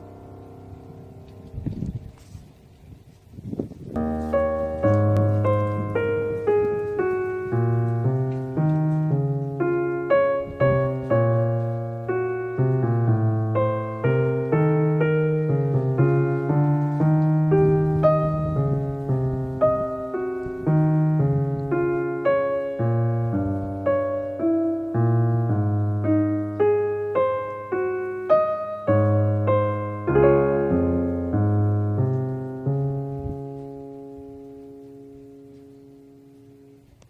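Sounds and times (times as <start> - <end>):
slow solo piano music: 0.0 - 37.0.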